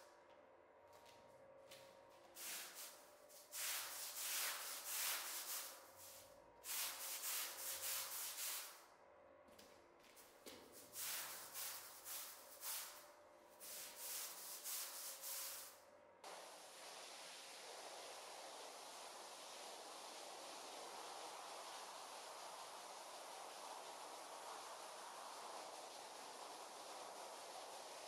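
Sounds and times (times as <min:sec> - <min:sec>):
steady hiss: 0:02.4 - 0:08.9, 0:10.5 - 0:28.0.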